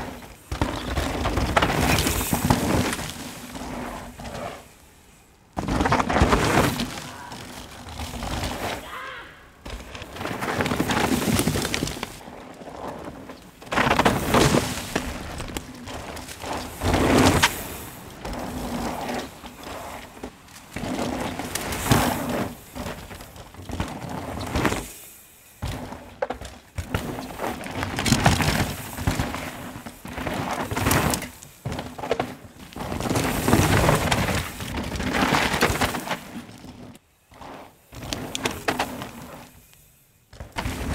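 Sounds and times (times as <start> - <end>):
bike knocking and rattling: 0.0 - 4.6, 5.5 - 40.9
bike tyres skidding through dirt: 0.0 - 40.9.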